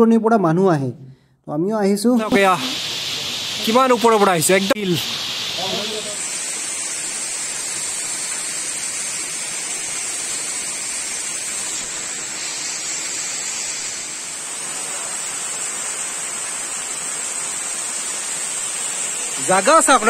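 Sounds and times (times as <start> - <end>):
waterfall rushing: 2.2 - 20.0.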